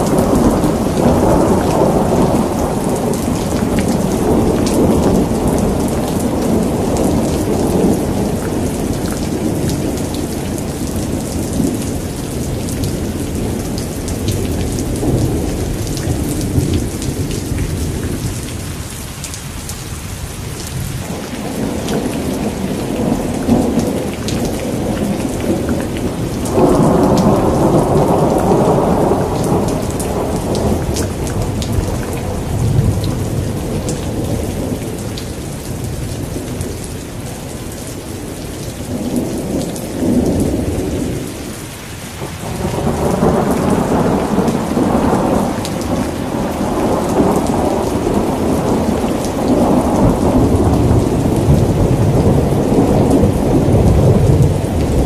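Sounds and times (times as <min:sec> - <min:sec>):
rolling thunder: 0:00.0 - 0:18.7, 0:20.7 - 0:38.2, 0:42.2 - 0:55.0
heavy rain: 0:00.0 - 0:55.0.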